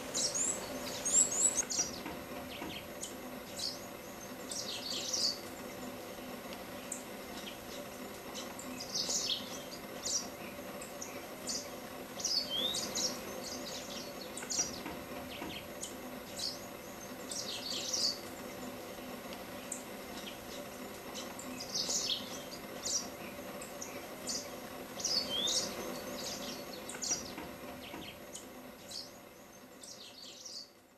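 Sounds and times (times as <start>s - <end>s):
low background drone: 0.0s - 30.7s
small birds chirping: 0.0s - 30.9s.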